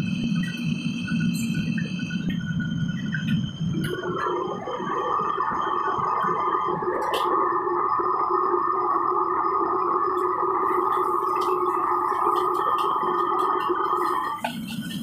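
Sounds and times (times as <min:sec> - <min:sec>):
gas burners roaring: 0:00.0 - 0:15.0.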